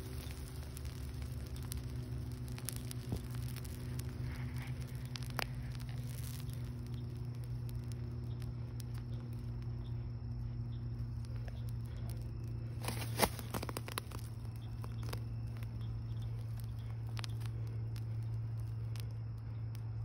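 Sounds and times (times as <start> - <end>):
molten metal crackling and popping: 0.0 - 20.0
steady low hum: 0.0 - 20.0.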